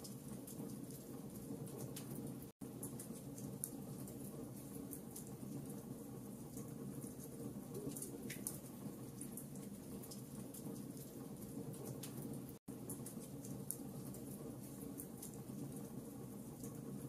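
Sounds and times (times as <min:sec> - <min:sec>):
fire rumbling in fireplace: 0:00.0 - 0:17.0
wood crackling and popping: 0:00.0 - 0:17.0.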